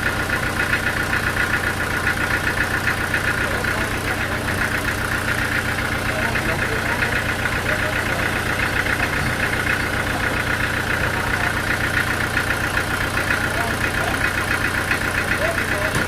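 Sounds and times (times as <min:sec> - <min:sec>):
machinery engine pulsing: 0:00.0 - 0:16.0.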